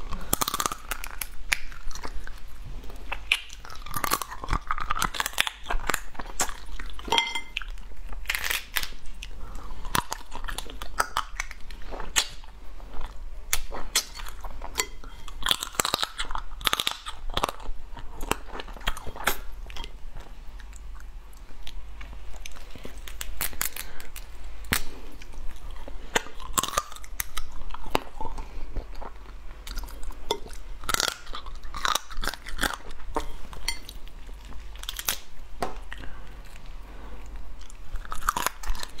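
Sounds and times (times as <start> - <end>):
chewing crunchy crab shell: 0.0 - 39.0.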